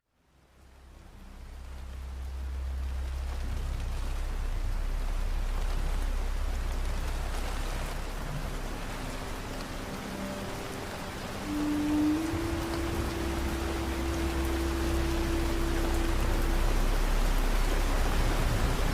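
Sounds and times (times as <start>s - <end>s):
steady rain falling: 0.0s - 18.9s
deep low rumble: 0.4s - 18.9s.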